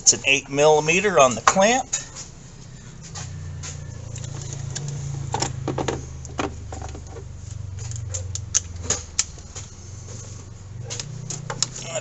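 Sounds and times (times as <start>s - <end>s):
low hum: 1.8s - 12.0s.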